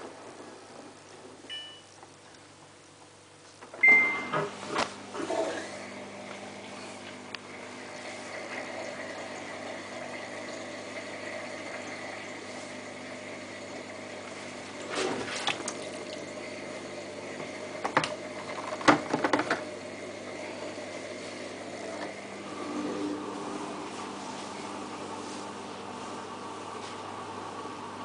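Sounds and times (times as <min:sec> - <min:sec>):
washing machine humming: 0:00.0 - 0:28.0.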